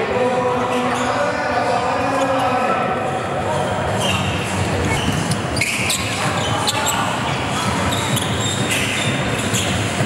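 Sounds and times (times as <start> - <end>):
sneaker squeaks: 0.7 - 10.0.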